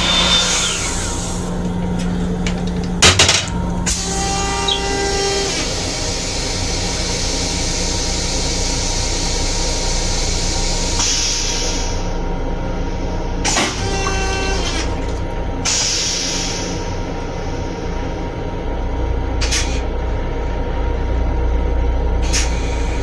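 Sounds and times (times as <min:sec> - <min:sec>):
train hum: 0:00.0 - 0:23.0.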